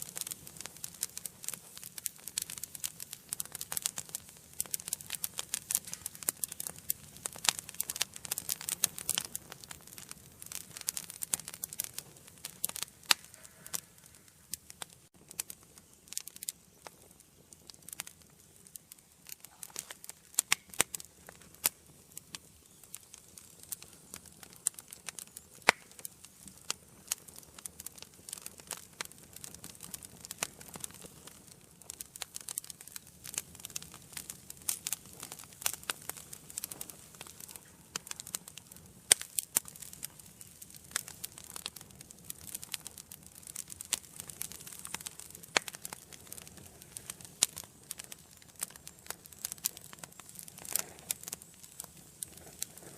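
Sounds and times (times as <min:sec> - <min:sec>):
low rush of flame: 0:00.0 - 0:52.9
wood fire crackling and popping: 0:00.0 - 0:52.9.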